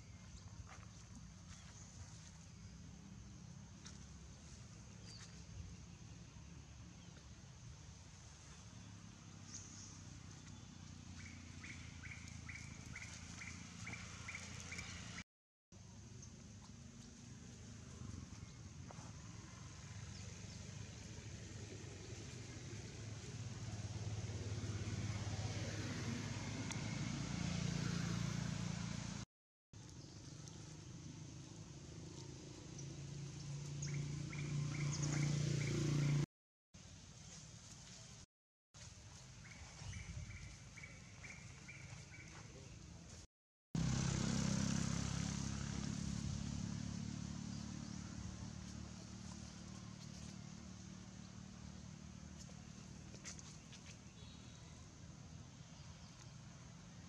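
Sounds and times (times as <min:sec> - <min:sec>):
vehicle engine hum: 0:00.0 - 0:15.2, 0:15.8 - 0:29.2, 0:29.8 - 0:57.0.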